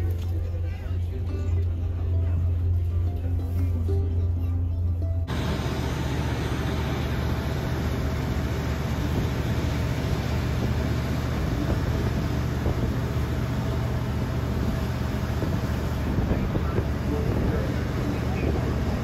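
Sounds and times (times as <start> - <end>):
boat engines droning: 0.0 - 19.0.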